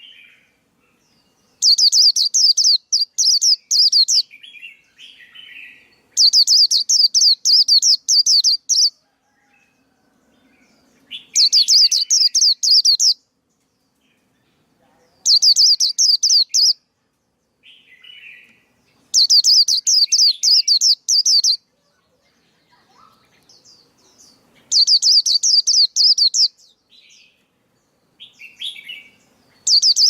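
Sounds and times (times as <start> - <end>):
soft bird twittering: 0.0 - 9.4, 10.7 - 16.8, 17.6 - 30.0.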